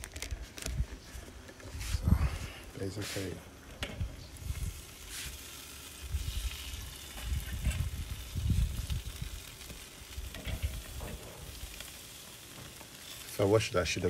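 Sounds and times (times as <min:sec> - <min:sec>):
chicken sizzling on grill: 0:01.8 - 0:14.0.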